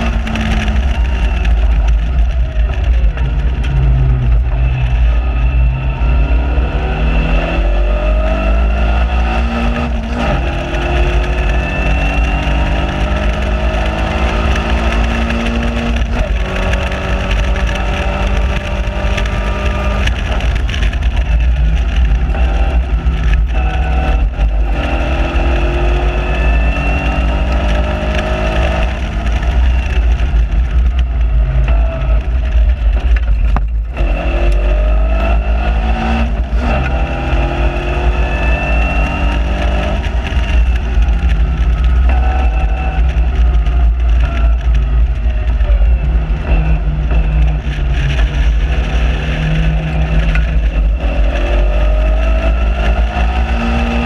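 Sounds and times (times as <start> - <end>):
sports car engine revving: 0.0 - 54.0
wind and road noise rumble: 0.0 - 54.0.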